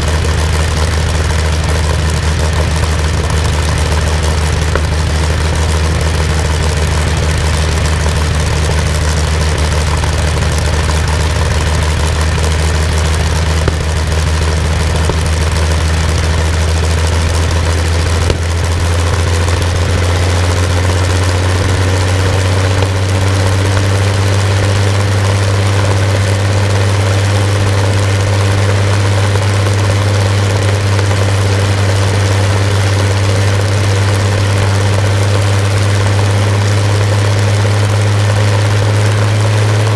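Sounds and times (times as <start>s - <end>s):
aero engine droning: 0.0s - 39.9s.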